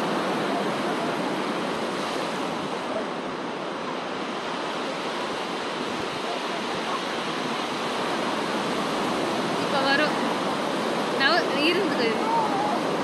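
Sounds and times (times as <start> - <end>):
waves washing on beach: 0.0 - 13.0.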